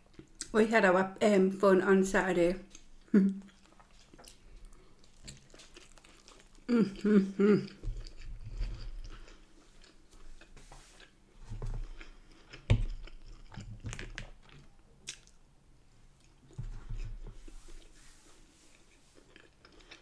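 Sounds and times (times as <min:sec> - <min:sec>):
close chewing: 0:02.7 - 0:15.4, 0:16.2 - 0:20.0.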